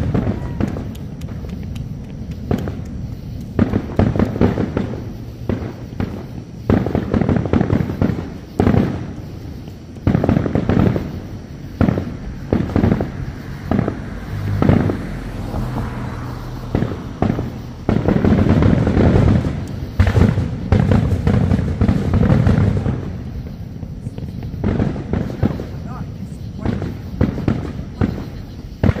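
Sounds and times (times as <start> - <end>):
fireworks bursting: 0.0 - 29.0
fireworks crackling: 0.0 - 29.0.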